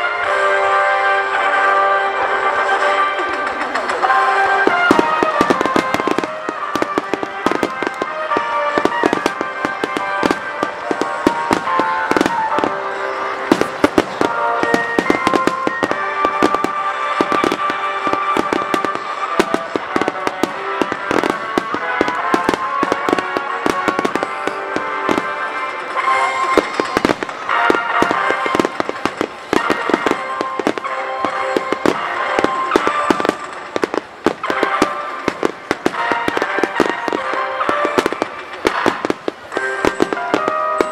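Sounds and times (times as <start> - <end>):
fireworks bangs and crackles: 0.0 - 40.9
music playing: 0.0 - 40.9.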